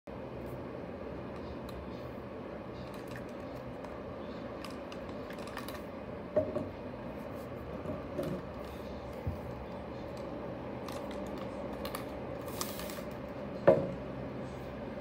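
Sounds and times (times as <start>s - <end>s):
steady hum: 0.1s - 15.0s.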